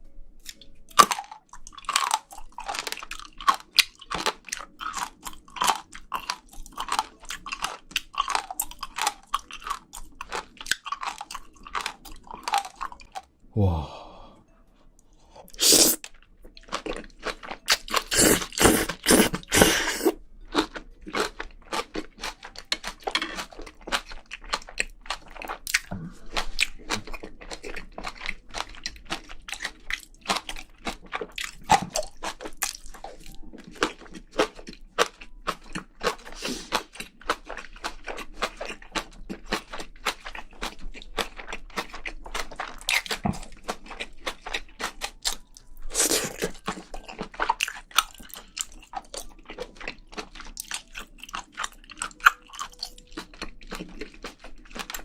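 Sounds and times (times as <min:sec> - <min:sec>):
wet chewing: 0:00.4 - 0:13.2, 0:15.5 - 0:55.0.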